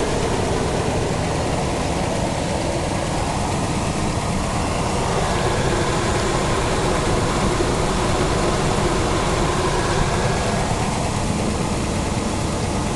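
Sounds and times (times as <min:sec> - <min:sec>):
truck engine running steadily: 0:00.0 - 0:12.9.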